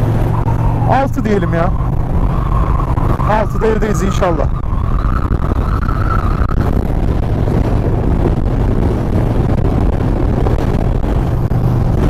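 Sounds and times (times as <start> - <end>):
motorcycle engine cruising: 0.0 - 12.0
wind rushing over microphone: 0.0 - 12.0.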